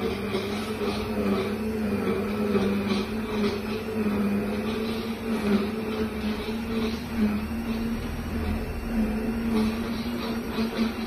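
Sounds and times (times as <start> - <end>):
blender motor humming: 0.0 - 11.0.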